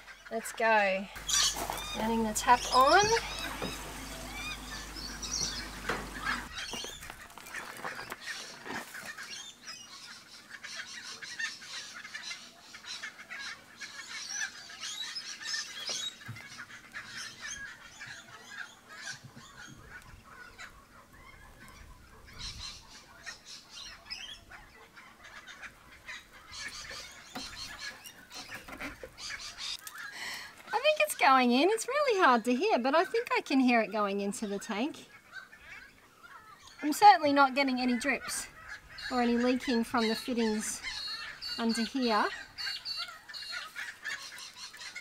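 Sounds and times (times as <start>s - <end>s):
birds calling: 0.0s - 45.0s.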